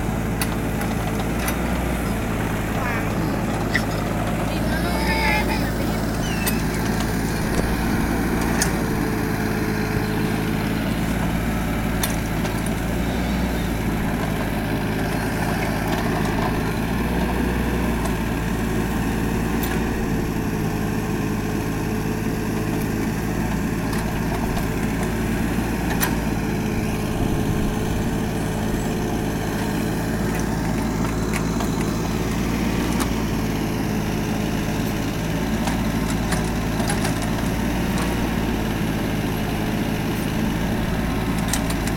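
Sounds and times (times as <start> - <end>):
excavator engine running: 0.0 - 41.9.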